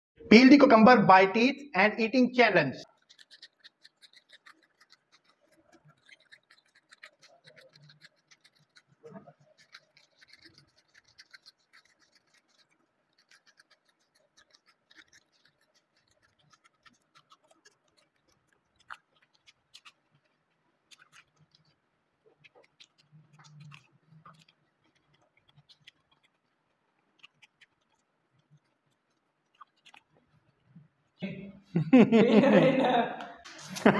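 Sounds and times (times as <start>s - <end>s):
teeth scraping cucumber peel: 2.8s - 30.8s
chewing: 2.8s - 31.2s.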